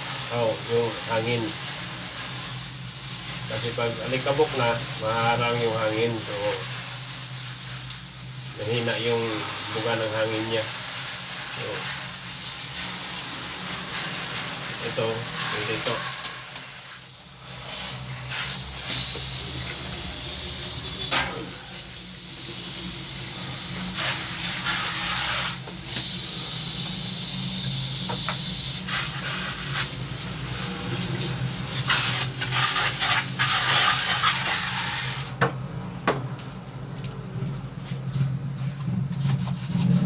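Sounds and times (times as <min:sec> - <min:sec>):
water running in a hissing stream: 0:00.0 - 0:35.4.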